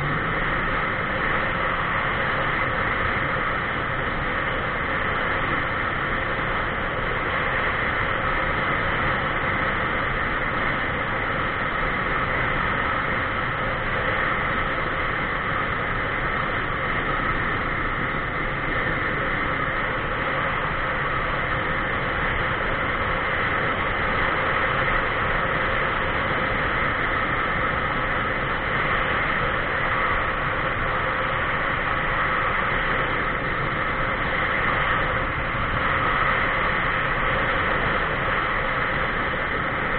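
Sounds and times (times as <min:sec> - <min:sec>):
road noise: 0:00.0 - 0:39.9
rushing wind: 0:00.0 - 0:39.9.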